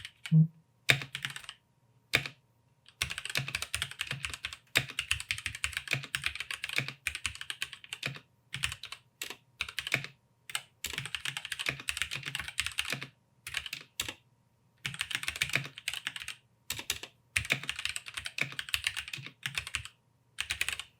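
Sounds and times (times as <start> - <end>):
mechanical keyboard typing: 0.0 - 14.2, 14.8 - 20.9.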